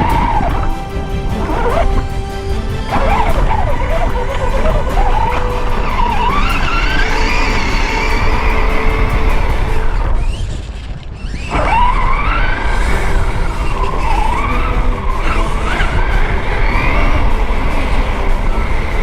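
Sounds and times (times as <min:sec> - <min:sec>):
toy crawler motor whining: 0:00.0 - 0:19.0
tyres rumbling on rough ground: 0:00.0 - 0:19.0.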